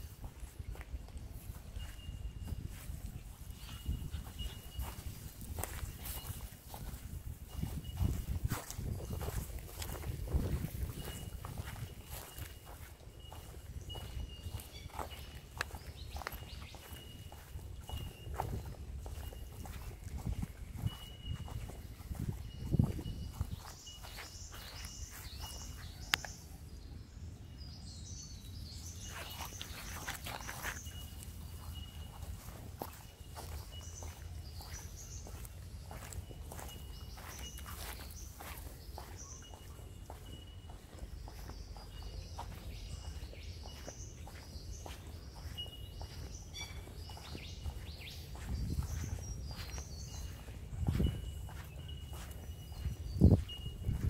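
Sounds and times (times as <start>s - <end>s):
footsteps on a path: 0.0s - 26.8s, 27.8s - 54.0s
birds chirping and calling: 0.0s - 27.0s, 27.6s - 54.0s.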